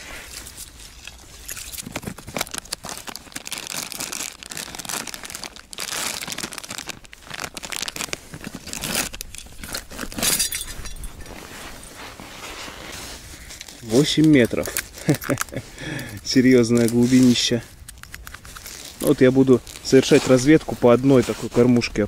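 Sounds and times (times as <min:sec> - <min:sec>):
bag being rummaged: 0:00.0 - 0:21.8
plastic packet crinkling: 0:00.4 - 0:12.0, 0:12.7 - 0:21.0.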